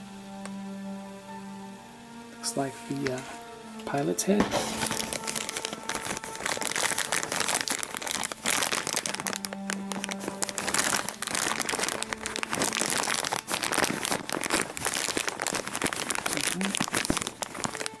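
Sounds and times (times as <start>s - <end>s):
plastic bag crinkling: 2.4s - 18.0s.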